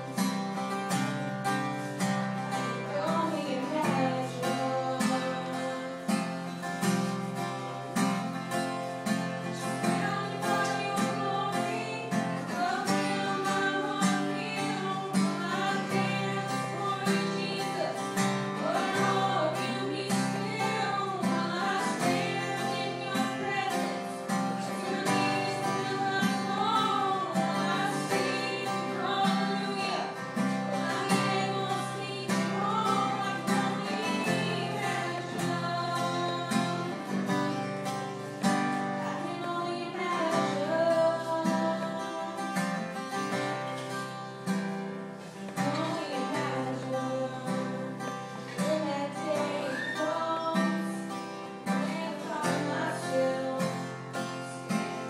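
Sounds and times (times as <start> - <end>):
strummed acoustic guitar: 0.0 - 55.0
woman singing into microphone: 2.1 - 6.4, 9.5 - 37.5, 39.0 - 42.8, 45.2 - 54.8.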